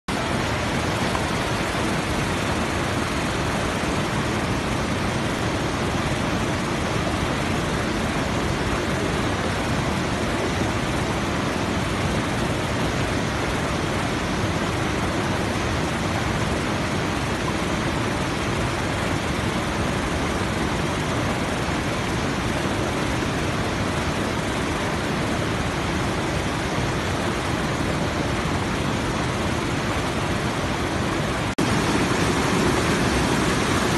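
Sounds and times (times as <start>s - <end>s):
waterfall rushing water: 0.1s - 33.9s.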